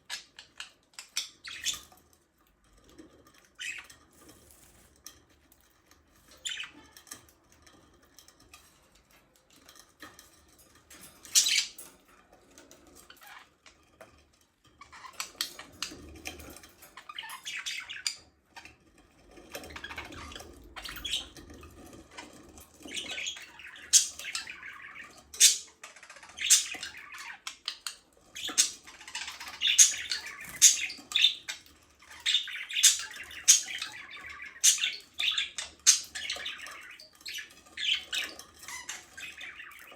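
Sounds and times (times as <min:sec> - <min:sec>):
budgerigars chirping and squawking: 0:00.0 - 0:02.1, 0:03.2 - 0:04.9, 0:05.8 - 0:07.2, 0:11.0 - 0:13.8, 0:14.8 - 0:18.8, 0:19.5 - 0:39.9.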